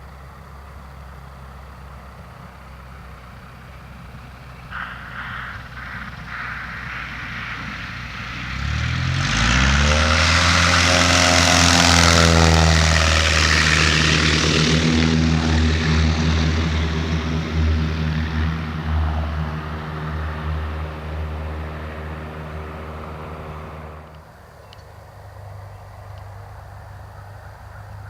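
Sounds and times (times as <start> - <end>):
propeller plane engine running up: 0.0 - 28.0.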